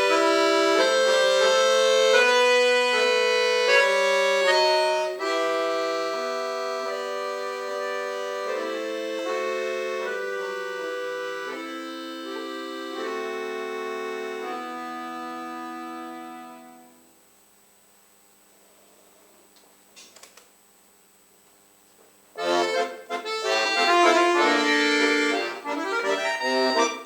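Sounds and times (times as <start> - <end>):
solo accordion music: 0.0 - 17.1, 22.4 - 27.0.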